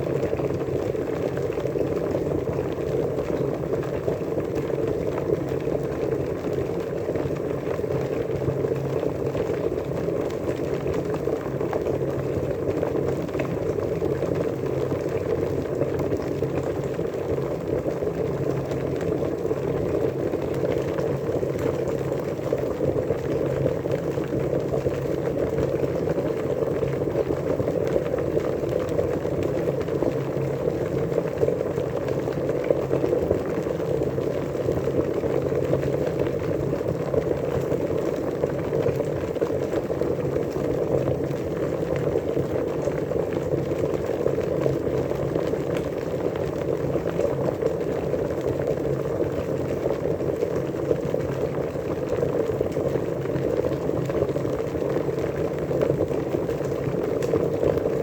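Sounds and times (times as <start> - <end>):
water boiling: 0.0 - 58.0.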